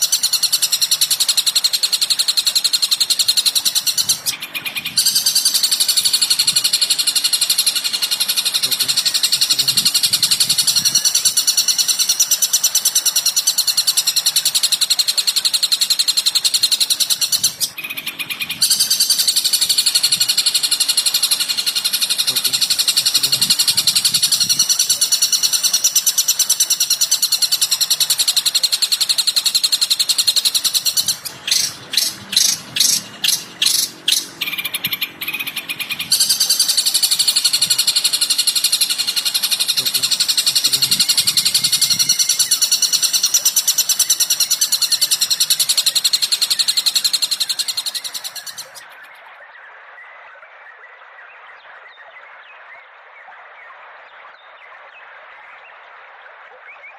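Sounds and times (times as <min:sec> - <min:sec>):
sharp bird calls: 0:00.0 - 0:52.9
songbird chatter: 0:00.0 - 0:56.9.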